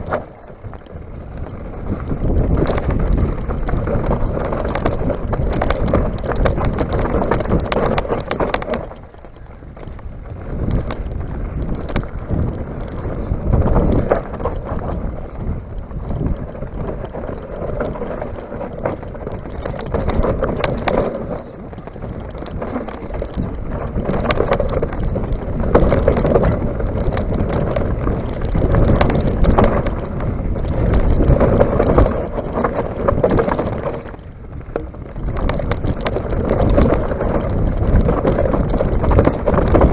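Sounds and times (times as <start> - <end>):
bike knocking and rattling: 0.0 - 39.9
tyres rumbling over gravel: 0.0 - 39.9
wind buffeting microphone: 0.0 - 39.9.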